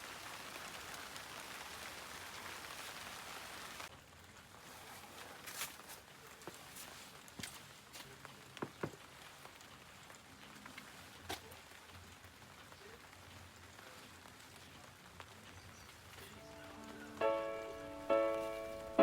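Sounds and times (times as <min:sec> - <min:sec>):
light rain patter: 0:00.0 - 0:19.0.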